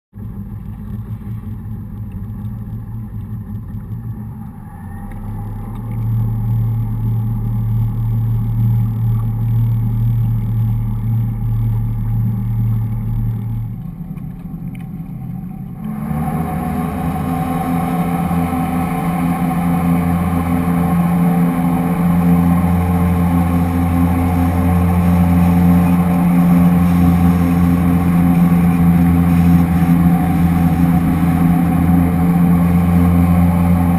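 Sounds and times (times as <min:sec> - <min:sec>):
motorboat engine: 0:00.2 - 0:33.9
water rushing along hull: 0:00.2 - 0:33.9.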